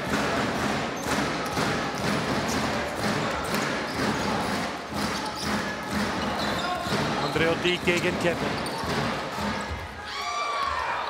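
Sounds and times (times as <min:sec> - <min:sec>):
arena crowd noise: 0:00.0 - 0:11.0.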